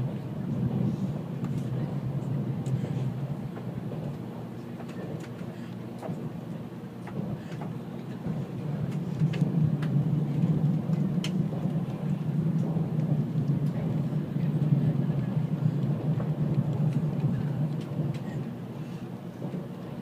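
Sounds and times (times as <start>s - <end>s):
train cabin rumble: 0.0s - 20.0s.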